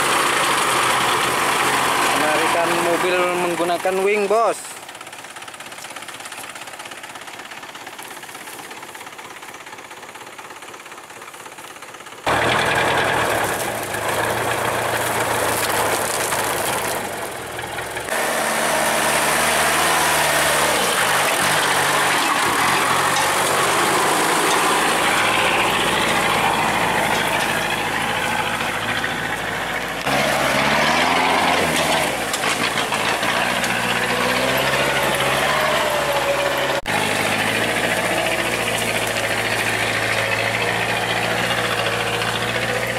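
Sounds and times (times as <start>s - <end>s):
truck engine revving: 0.0s - 4.6s, 12.2s - 42.9s.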